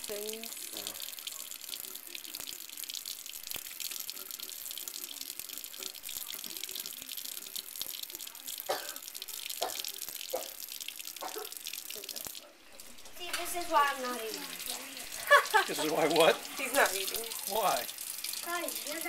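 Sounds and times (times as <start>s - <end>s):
faucet water running into sink: 0.0s - 19.0s.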